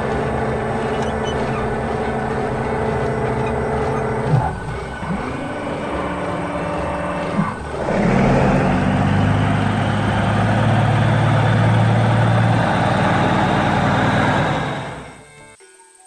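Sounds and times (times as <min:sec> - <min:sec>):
heavy truck engine running: 0:00.0 - 0:15.6.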